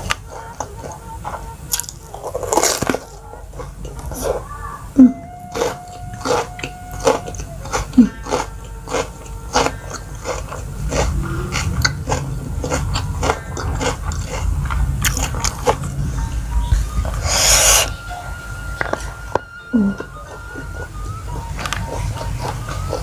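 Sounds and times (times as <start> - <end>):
crisp wet chewing crunches: 0.0 - 4.5, 5.3 - 23.0.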